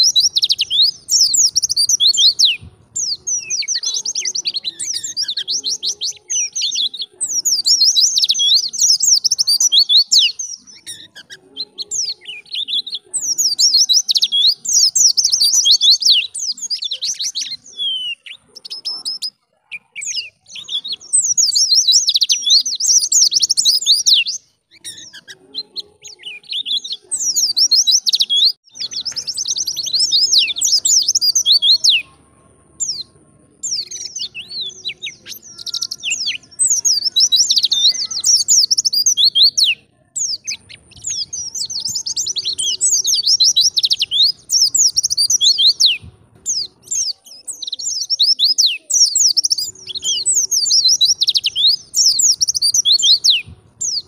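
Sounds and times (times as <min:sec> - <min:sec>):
bird chattering chirps: 0:00.0 - 0:32.2, 0:32.8 - 0:54.0.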